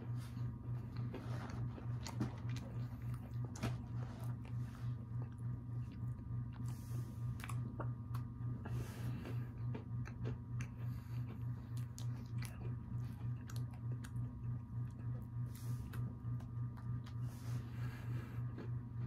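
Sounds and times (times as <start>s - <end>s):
low hum: 0.0s - 19.0s
person chewing crunchy cookie: 0.0s - 19.0s.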